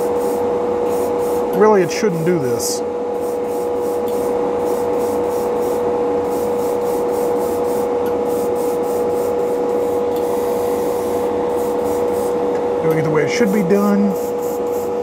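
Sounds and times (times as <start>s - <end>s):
airbrush spraying hiss: 0.0s - 1.5s, 3.2s - 12.4s, 13.4s - 15.0s
extraction fan humming: 0.0s - 15.0s.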